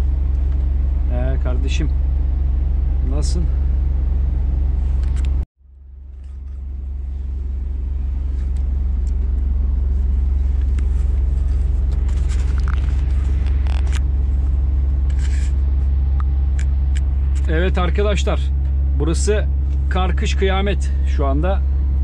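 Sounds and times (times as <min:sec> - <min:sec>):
diesel truck engine drone: 0:00.0 - 0:22.0
road noise: 0:00.0 - 0:22.0.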